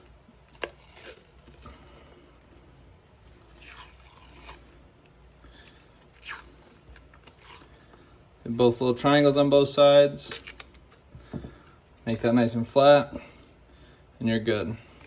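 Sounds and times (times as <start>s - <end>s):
tape rustling: 0.0s - 12.4s
tape crinkling and scraping: 0.0s - 12.5s.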